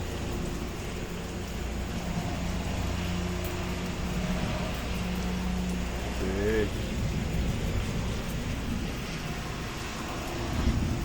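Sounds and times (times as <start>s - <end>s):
engine hum: 0.0s - 11.0s
rain hissing: 0.0s - 11.0s.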